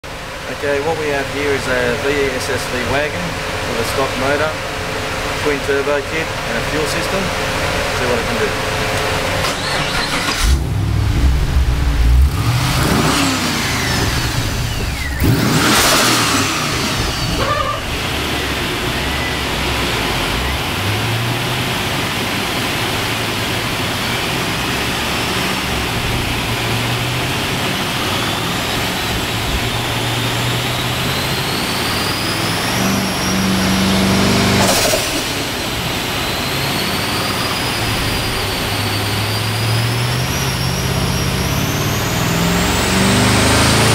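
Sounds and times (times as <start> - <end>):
car engine accelerating: 0.1 - 43.9
turbo whine: 7.2 - 43.9.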